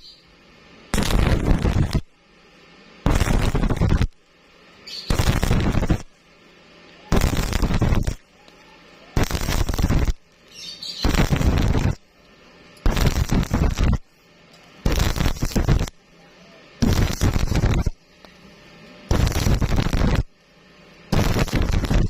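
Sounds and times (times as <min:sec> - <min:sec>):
welding arc crackling: 0:00.7 - 0:22.0.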